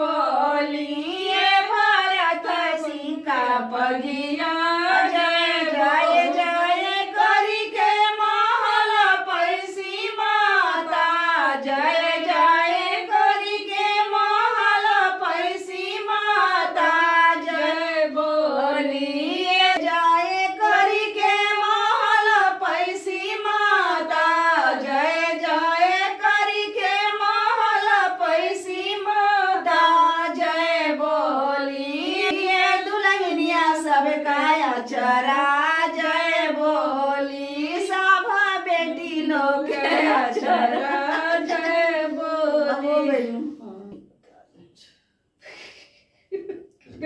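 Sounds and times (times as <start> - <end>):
women singing together: 0.0 - 44.1.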